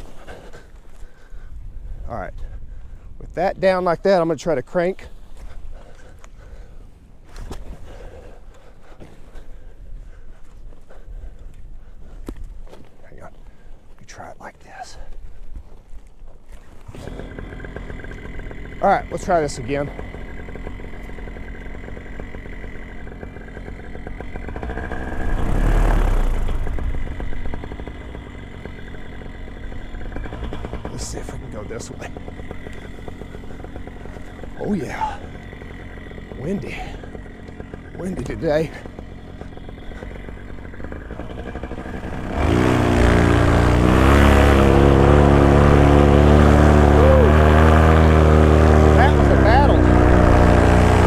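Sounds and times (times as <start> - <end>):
paramotor engine and propeller: 0.0 - 51.0.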